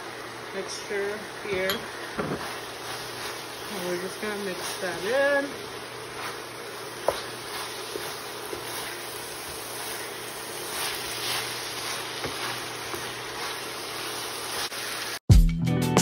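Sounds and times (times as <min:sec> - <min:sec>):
meat sizzling in a skillet: 0:00.0 - 0:15.2
wooden spatula scraping a pan: 0:01.6 - 0:14.7.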